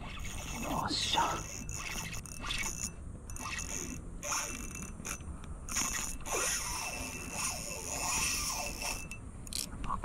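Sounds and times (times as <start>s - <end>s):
fishing reel gears whirring: 0.0s - 9.7s.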